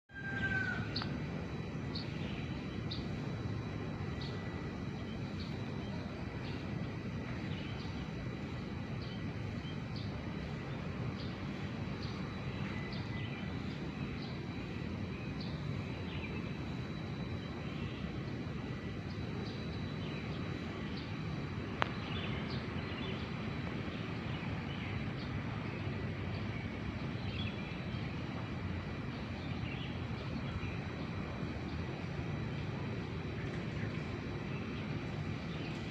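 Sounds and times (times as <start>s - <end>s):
low background rumble: 0.1s - 35.9s.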